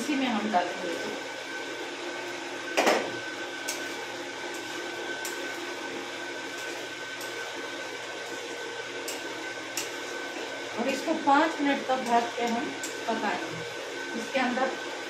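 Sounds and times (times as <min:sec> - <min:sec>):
steady whirring hum: 0:00.0 - 0:15.0
vegetables frying in masala: 0:00.0 - 0:15.0.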